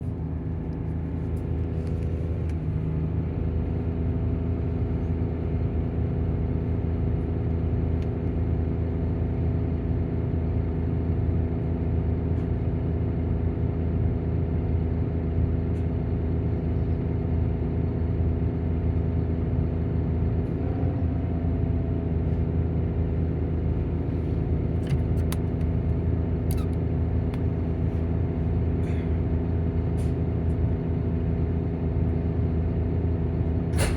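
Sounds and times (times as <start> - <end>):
diesel engine idling: 0.0 - 20.4, 21.2 - 33.9
engine cooling fan running: 0.0 - 21.3, 22.0 - 33.9.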